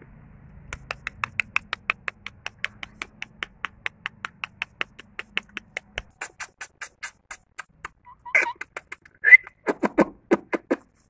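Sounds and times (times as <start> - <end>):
rapid sharp clicks: 0.7 - 11.0.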